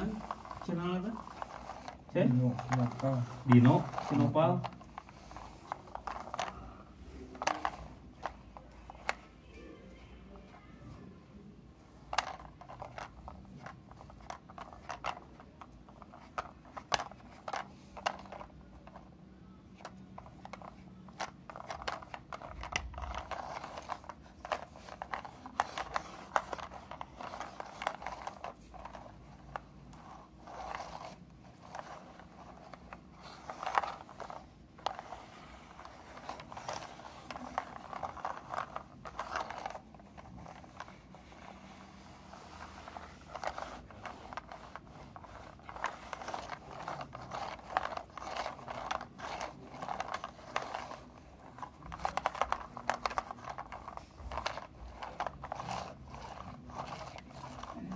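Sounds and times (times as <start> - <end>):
toy truck rattling on carpet: 0.0 - 6.6, 11.9 - 19.1, 19.8 - 57.9.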